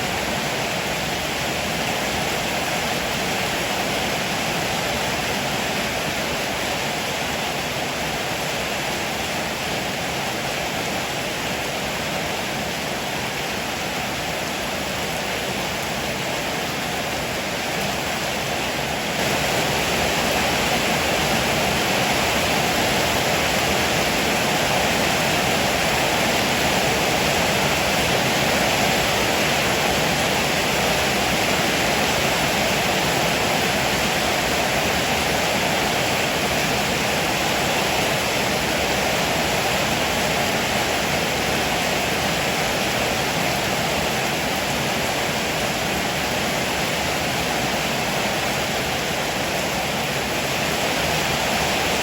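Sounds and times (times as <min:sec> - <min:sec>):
heavy rain on a roof: 0:00.0 - 0:52.0.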